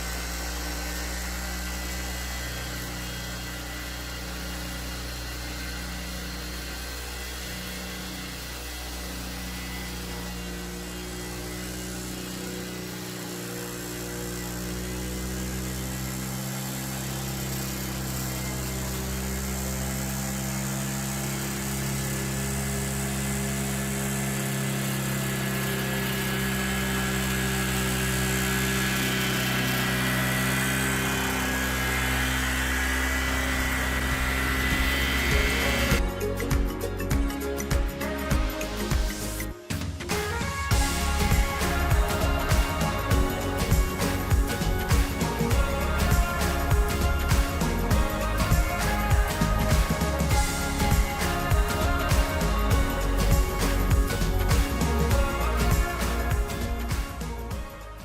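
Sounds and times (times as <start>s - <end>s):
lawnmower motor drone: 0.0s - 58.0s.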